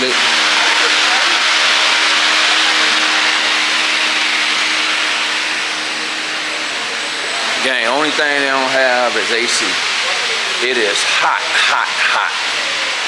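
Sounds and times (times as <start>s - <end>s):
faint low motor hum: 0.0s - 13.0s.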